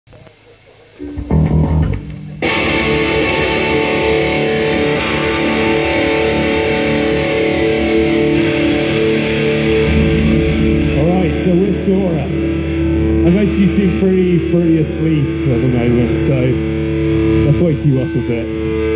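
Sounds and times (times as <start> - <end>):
low bass notes: 1.0 - 18.9
rock band playing live: 1.0 - 18.9.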